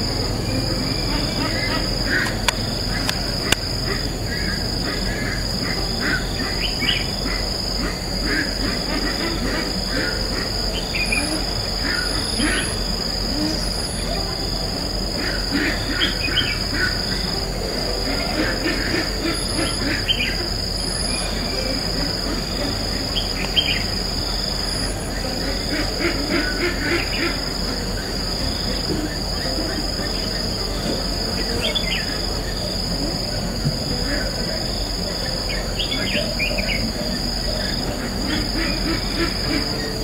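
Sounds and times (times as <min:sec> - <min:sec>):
bird chirping calls: 0:00.0 - 0:40.0
high-pitched insect drone: 0:00.0 - 0:40.0.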